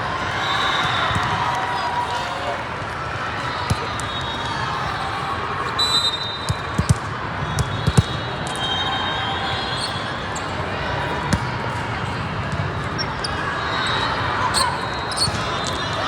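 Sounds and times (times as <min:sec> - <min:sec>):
sports hall hubbub: 0:00.0 - 0:16.0.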